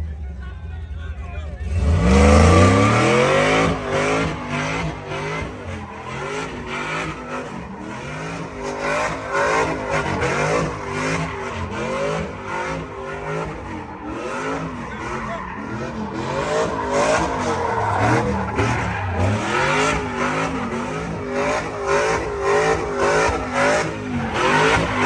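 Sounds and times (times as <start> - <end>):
truck engine revving: 1.4 - 25.0
tires squealing on pavement: 1.6 - 25.0.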